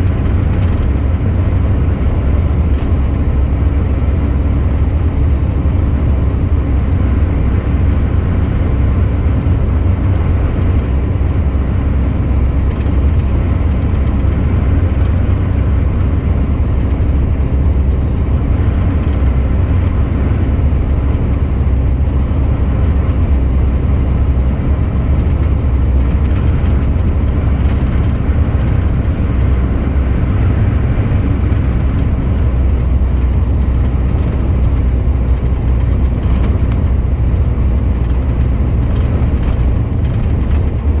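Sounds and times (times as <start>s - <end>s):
truck engine and road rumble: 0.0s - 41.0s.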